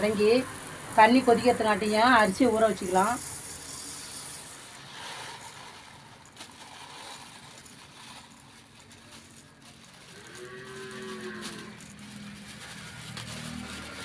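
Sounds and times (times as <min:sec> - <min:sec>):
plastic bag rustling: 0:00.0 - 0:14.0
rice pouring into plastic basin: 0:00.0 - 0:14.0.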